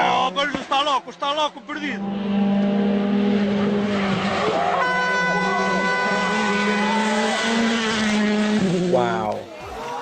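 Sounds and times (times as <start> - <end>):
rally car engine at high revs: 1.6 - 9.7.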